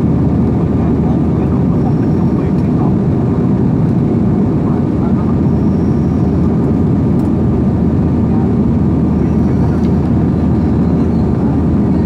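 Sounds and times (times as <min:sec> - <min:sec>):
jet airliner cabin roar: 0:00.0 - 0:12.0.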